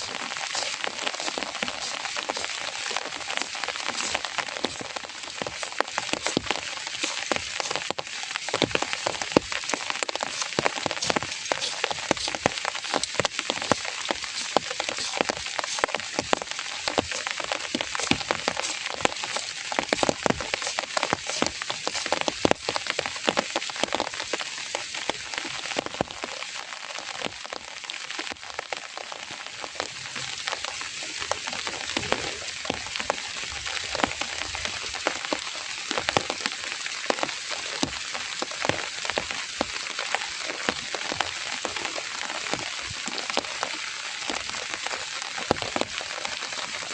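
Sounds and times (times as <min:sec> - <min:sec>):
heavy rain falling: 0:00.0 - 0:46.9
raindrops striking hard surface: 0:00.0 - 0:46.9.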